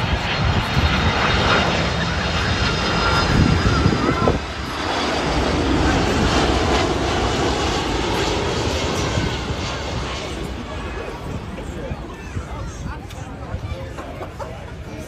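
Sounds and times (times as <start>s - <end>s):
jet engines droning overhead: 0.0s - 15.0s.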